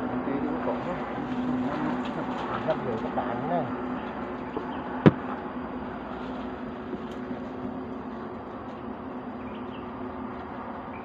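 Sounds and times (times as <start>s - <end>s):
bees buzzing: 0.0s - 10.8s.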